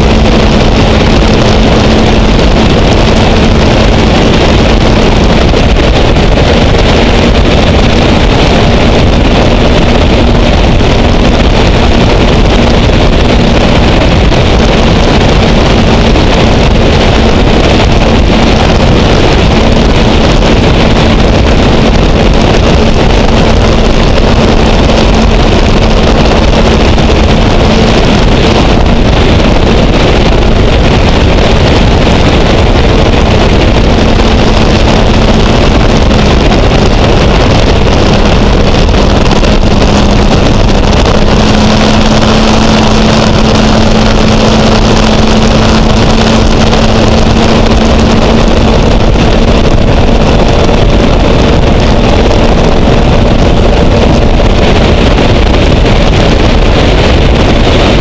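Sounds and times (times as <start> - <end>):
turbine boat engine with high whine: 0.0 - 58.0
wind buffeting microphone: 0.0 - 58.0.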